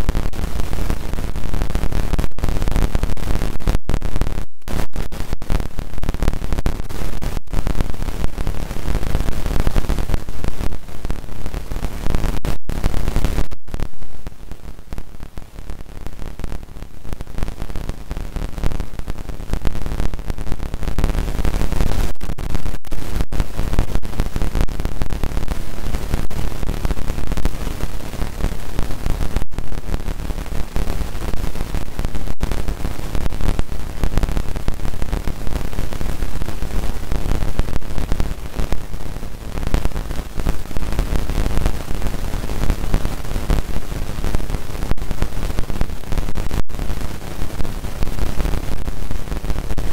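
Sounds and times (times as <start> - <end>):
static hiss: 0.0 - 49.9.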